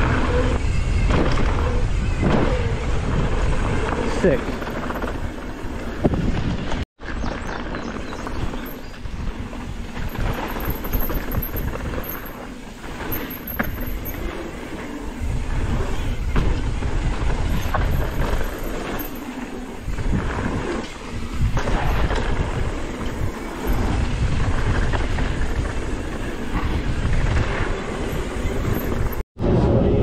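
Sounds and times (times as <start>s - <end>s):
bike knocks and rattles: 0.0s - 29.2s
tyres rumbling over dirt: 0.0s - 29.8s
wind buffeting microphone: 0.0s - 30.0s.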